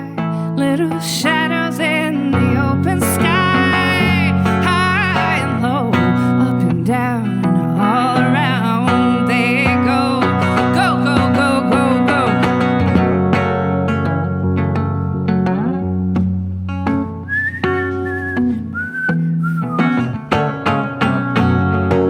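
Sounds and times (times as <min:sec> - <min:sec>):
acoustic guitar: 0:00.0 - 0:22.0.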